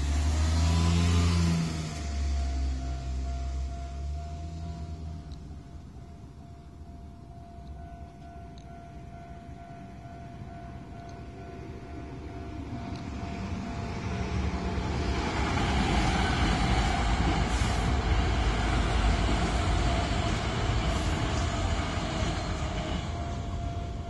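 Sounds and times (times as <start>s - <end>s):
electric train passing: 0.0s - 24.0s
crossing warning signal tone: 1.4s - 15.2s, 17.5s - 24.0s.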